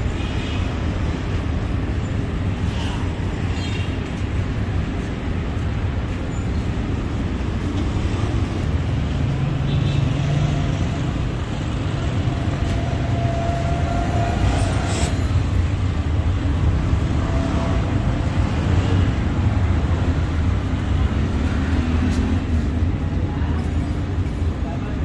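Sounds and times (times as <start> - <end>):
rumble of vehicle engines: 0.0 - 25.0.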